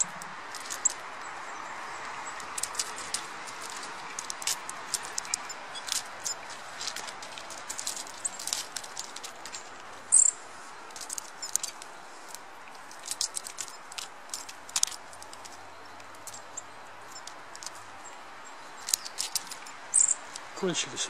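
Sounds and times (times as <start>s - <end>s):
animals pecking and nibbling seeds: 0.0s - 21.0s.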